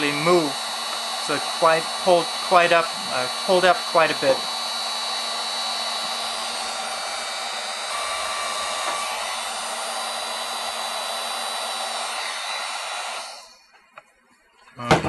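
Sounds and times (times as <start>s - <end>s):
heat gun fan blowing: 0.0s - 13.7s.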